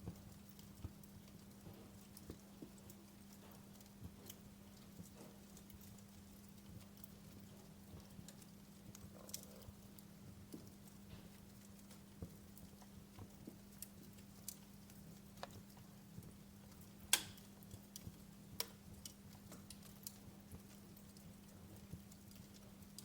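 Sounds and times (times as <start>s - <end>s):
wood fire crackling faintly: 0.0s - 23.0s.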